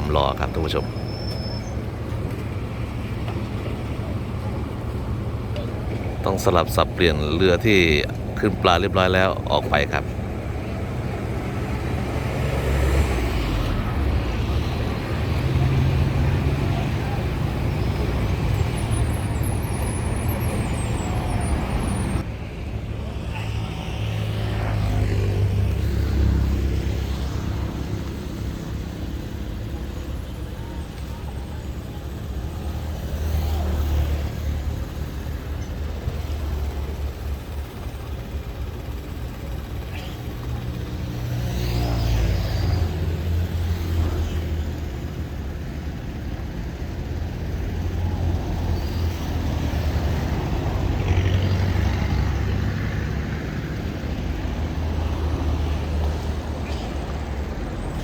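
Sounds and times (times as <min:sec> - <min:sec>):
boat diesel engines droning: 0:00.0 - 0:58.0.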